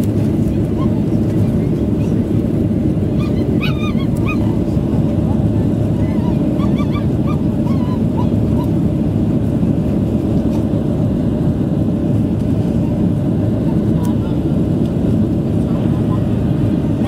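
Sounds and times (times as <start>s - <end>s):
jet engine cabin rush: 0.0s - 17.0s.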